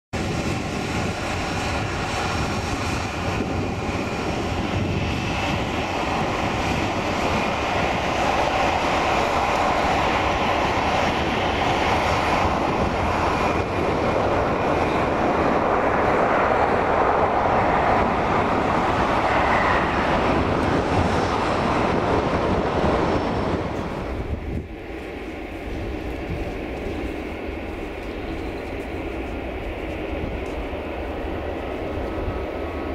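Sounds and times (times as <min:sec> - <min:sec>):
jet engines rushing: 0:00.2 - 0:32.9.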